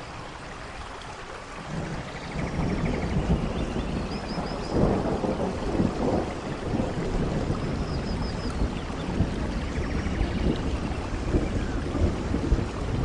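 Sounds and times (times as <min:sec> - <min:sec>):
steady rain: 0:00.0 - 0:13.0
low rolling thunder: 0:01.6 - 0:13.0.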